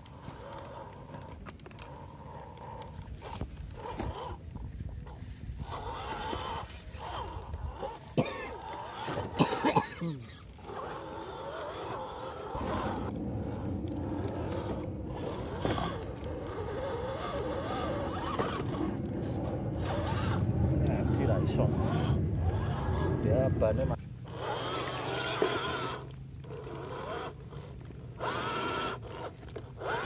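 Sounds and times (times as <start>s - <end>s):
electric motor whining: 0.0s - 9.4s, 10.0s - 30.0s.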